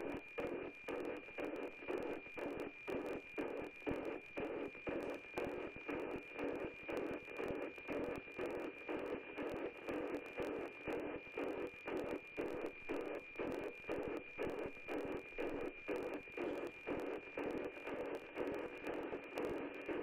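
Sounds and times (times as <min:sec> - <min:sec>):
radio static hiss and crackle: 0:00.0 - 0:20.0.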